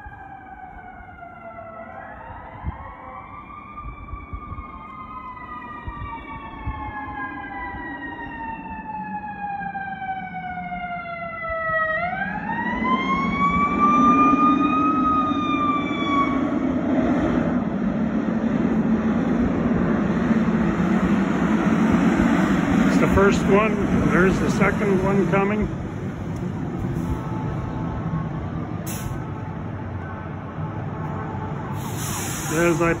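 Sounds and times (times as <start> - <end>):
fire truck siren wailing: 0.0 - 33.0
truck engine and road noise: 0.0 - 33.0.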